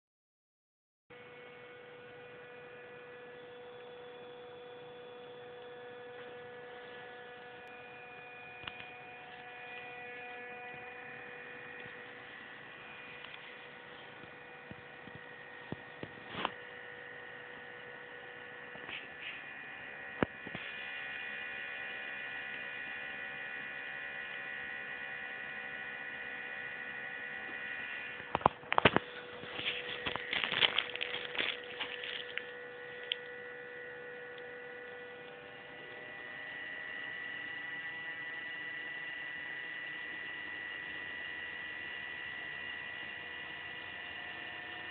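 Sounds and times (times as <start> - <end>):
small fan motor whine: 1.1 - 44.9.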